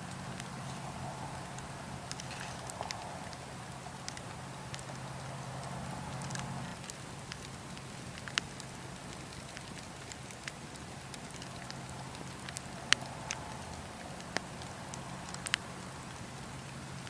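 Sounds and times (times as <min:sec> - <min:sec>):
low rushing hiss: 0:00.0 - 0:17.0
wood fire crackling: 0:00.0 - 0:17.0.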